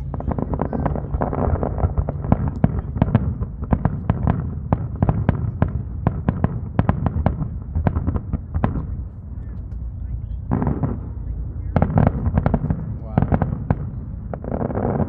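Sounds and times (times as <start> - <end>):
fireworks bangs and pops: 0.0 - 15.0
low rumble: 0.0 - 15.0.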